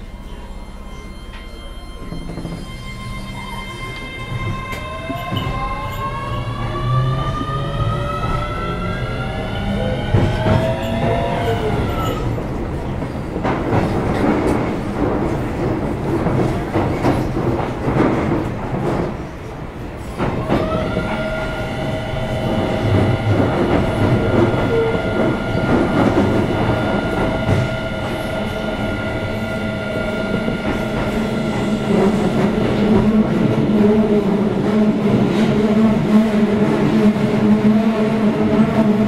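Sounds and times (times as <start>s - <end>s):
train wheels rolling on rails: 4.0s - 39.0s.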